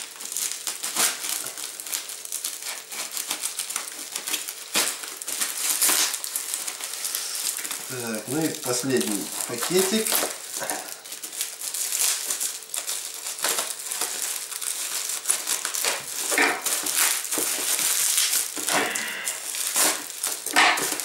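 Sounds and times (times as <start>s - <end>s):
plastic wrap crinkling: 0.0s - 21.0s.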